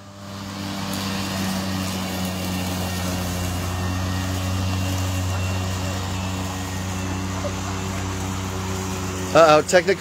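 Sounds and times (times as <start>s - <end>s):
electric lawn mowers humming: 0.0s - 10.0s.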